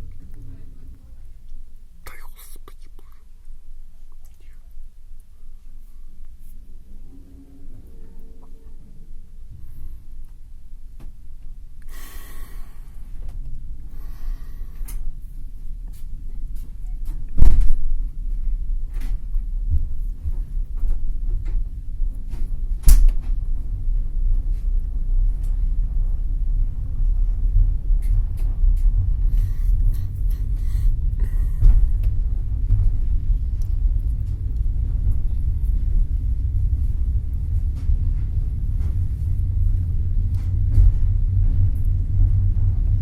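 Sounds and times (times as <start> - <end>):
train carriage rumble: 0.0 - 2.6, 3.2 - 43.0.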